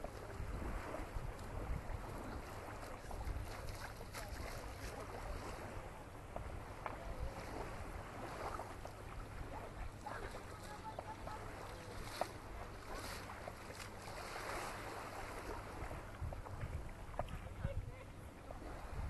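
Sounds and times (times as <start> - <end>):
small waves lapping on sand: 0.0 - 19.0
wind on microphone: 0.0 - 19.0.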